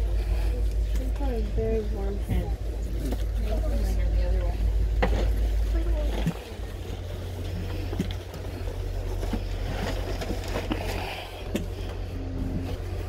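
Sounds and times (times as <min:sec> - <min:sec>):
train rumbling inside coach: 0:00.0 - 0:13.0.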